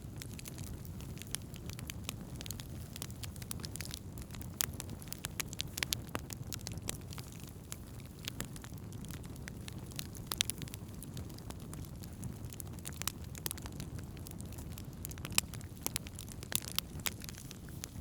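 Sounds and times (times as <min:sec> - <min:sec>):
burning wood crackling: 0:00.0 - 0:18.0
low rumble of flames: 0:00.0 - 0:18.0.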